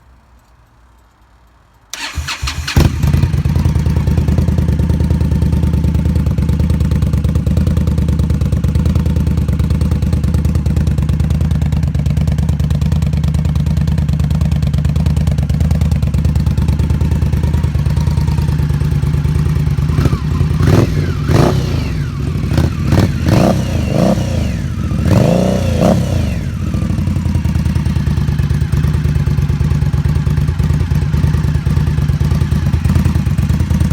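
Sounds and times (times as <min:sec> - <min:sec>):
motorcycle engine idling: 0:01.9 - 0:33.9
motorcycle engine revving: 0:01.9 - 0:33.9.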